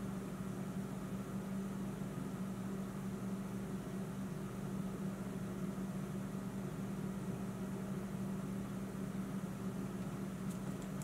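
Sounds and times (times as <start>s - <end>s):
low steady background hum: 0.0s - 11.0s.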